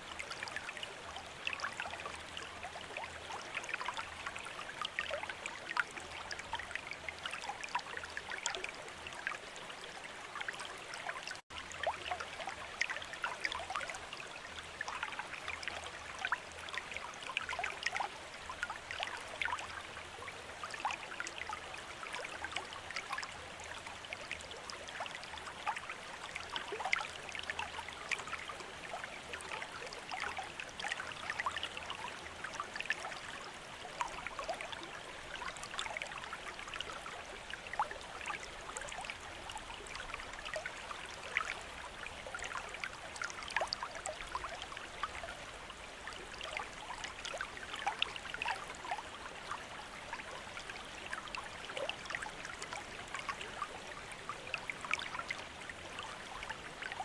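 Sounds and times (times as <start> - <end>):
fountain water trickling and splashing: 0.0 - 57.0.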